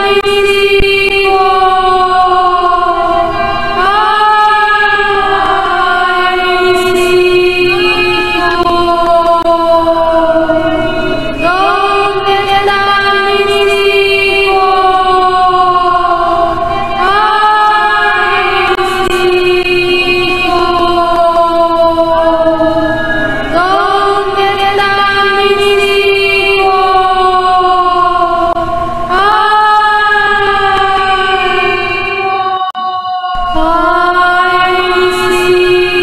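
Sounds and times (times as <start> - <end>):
wordless choir voices: 0.0 - 36.0.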